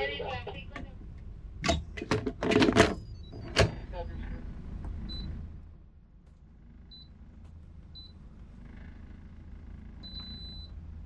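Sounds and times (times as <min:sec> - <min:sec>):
boat engines rumbling: 0:00.0 - 0:01.6, 0:03.3 - 0:11.0.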